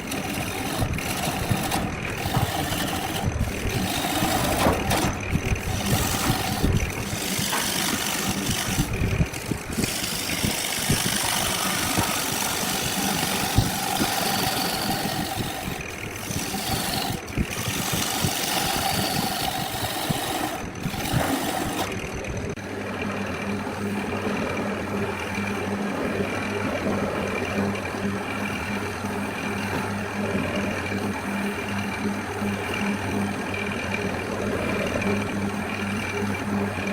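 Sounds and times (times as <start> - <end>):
wood lathe cutting wood: 0.0 - 36.9.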